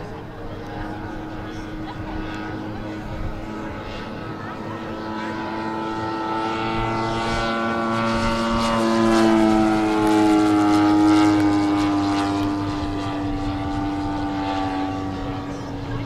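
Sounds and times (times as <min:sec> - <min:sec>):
model plane propeller drone: 0:00.0 - 0:16.0.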